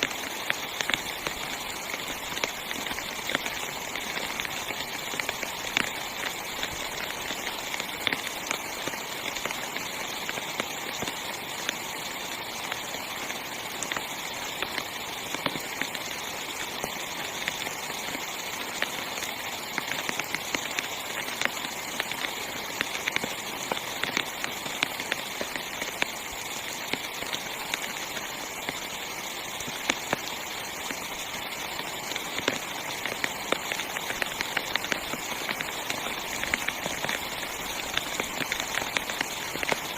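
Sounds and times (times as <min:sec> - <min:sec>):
heavy rain on tent fabric: 0:00.0 - 0:39.9.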